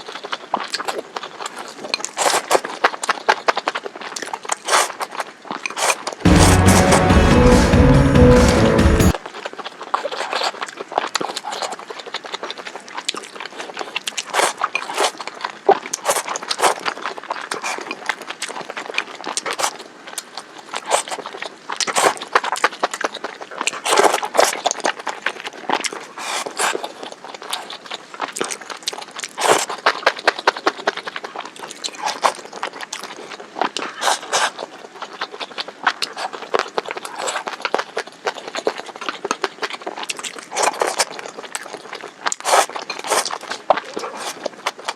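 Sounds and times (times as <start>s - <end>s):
chewing and crunching food: 0.0s - 7.1s, 9.2s - 44.9s.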